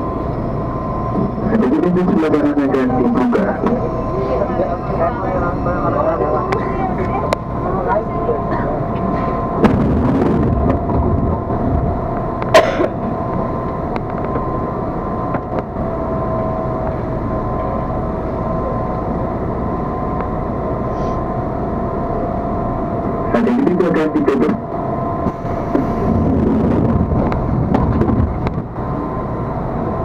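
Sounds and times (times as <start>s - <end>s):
train equipment humming: 0.0s - 30.0s.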